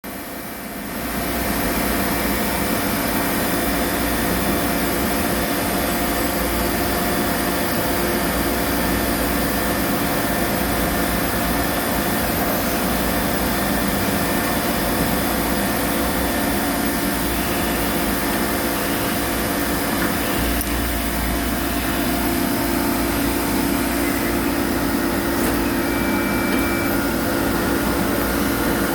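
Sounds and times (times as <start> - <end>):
machine whirring and humming: 0.1 - 28.9.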